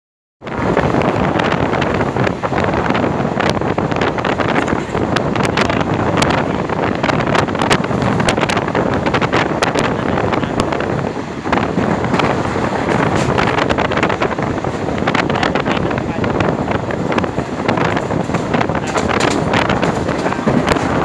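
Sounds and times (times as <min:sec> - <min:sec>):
train running noise and wind rush: 0:00.4 - 0:21.0.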